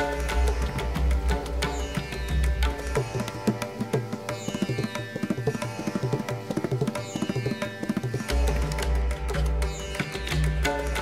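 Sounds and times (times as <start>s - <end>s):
instrumental music with drums and strings: 0.0s - 11.0s.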